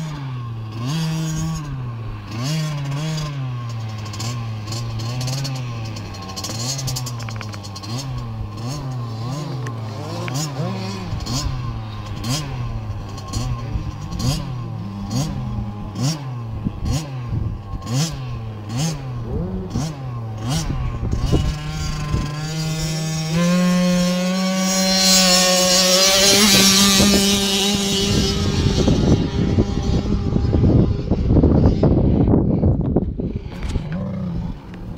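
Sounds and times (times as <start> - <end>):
louder motorcycle revving high: 0.0 - 34.9
motorcycle engine revving: 0.0 - 34.9.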